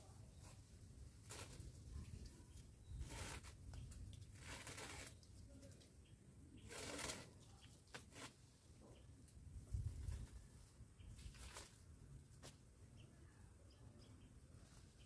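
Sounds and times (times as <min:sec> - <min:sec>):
branches and leaves rustling: 0:00.0 - 0:12.8.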